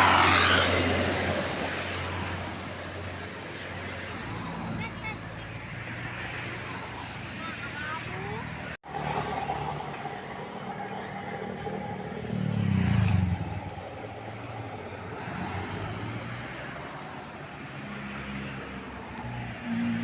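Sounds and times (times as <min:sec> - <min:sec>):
road traffic passing: 0:00.0 - 0:20.0.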